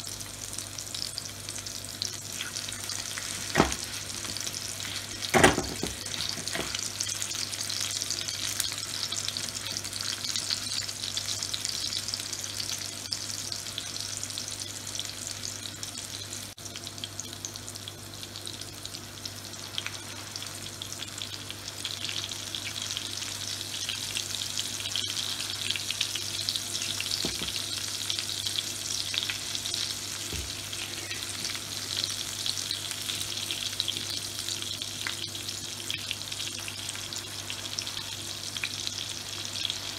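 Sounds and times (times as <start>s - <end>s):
patties sizzling in oil: 0.0s - 39.9s.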